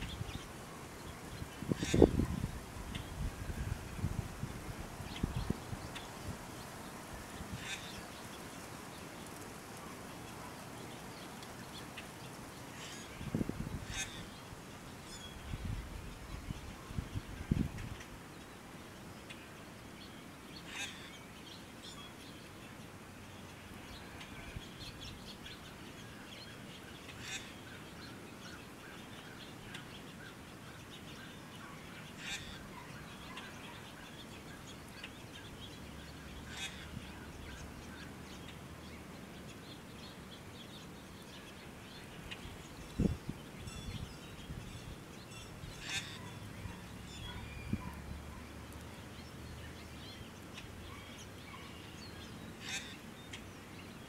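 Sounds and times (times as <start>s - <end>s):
birds calling and chirping: 0.0s - 54.0s.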